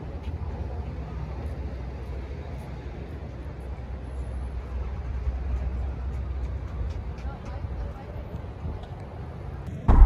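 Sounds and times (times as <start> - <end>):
parking lot rumble: 0.0 - 10.0.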